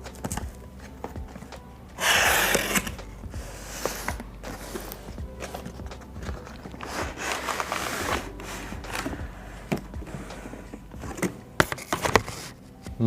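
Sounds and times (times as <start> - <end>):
cardboard rustling and scraping: 0.0 - 12.9.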